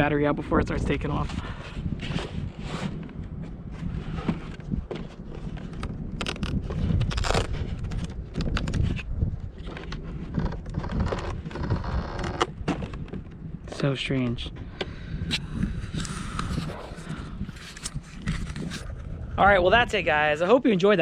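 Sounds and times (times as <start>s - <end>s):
low steady rumble: 3.0s - 20.6s.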